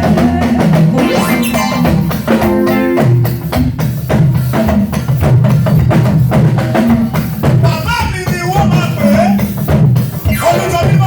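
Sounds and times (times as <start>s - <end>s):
drums and hand percussion: 0.0s - 11.0s
live band playing: 0.0s - 11.0s.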